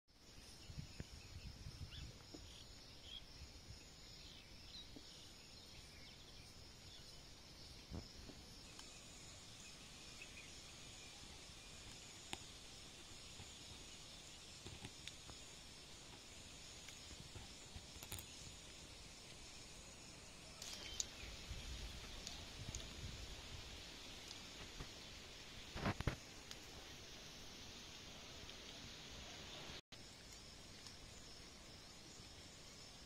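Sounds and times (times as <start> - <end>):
insect drone: 0.1 - 33.0.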